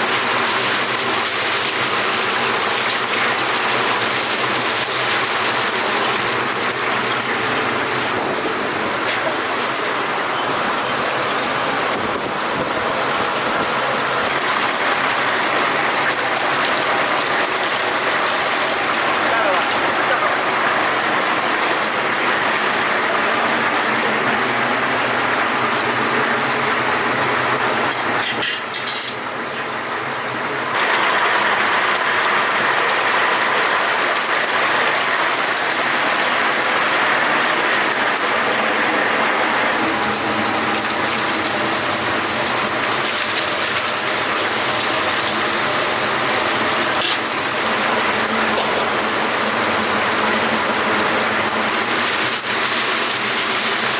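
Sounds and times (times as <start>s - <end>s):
chicken sizzling in hot oil: 0.0s - 53.9s.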